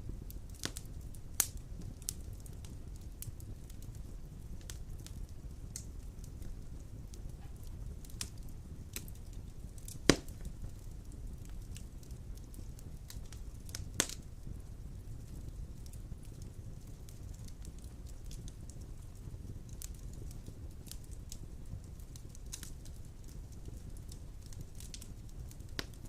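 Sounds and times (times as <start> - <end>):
sharp pops from burning logs: 0.0 - 26.0
wood fire crackling: 0.0 - 26.0.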